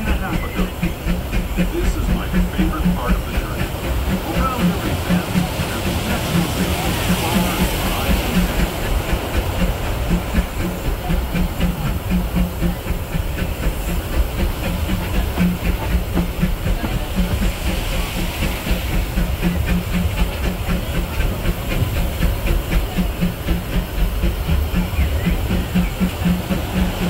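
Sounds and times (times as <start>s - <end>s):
steam locomotive chuffing: 0.0s - 27.0s
train wheels clicking over rails: 0.0s - 27.0s.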